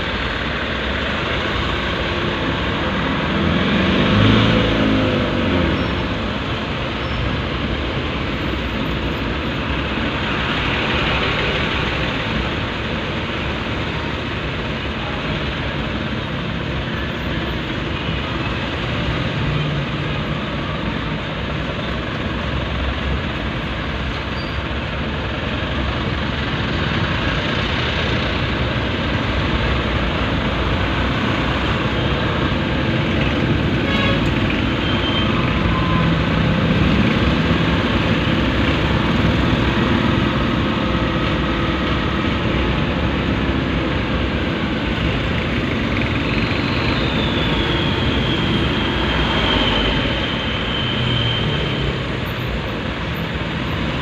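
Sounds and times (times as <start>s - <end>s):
congested city traffic: 0.0s - 54.0s.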